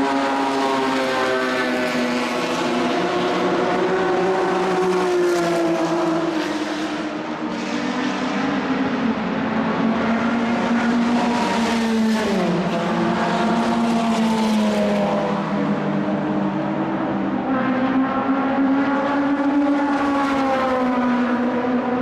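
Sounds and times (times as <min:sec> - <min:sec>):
racing car engine at speed: 0:00.0 - 0:22.0.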